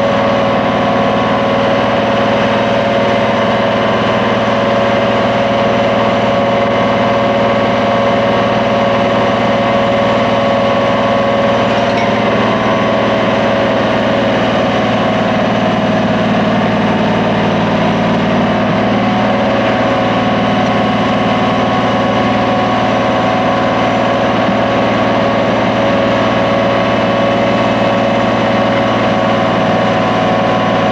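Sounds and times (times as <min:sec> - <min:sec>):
vacuum excavator humming: 0:00.0 - 0:30.9.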